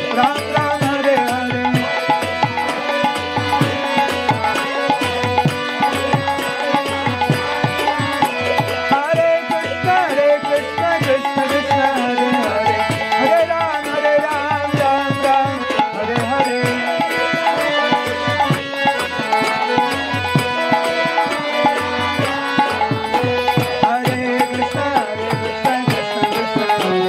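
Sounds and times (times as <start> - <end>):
harmonium chords: 0.0 - 27.0
person singing: 0.0 - 27.0.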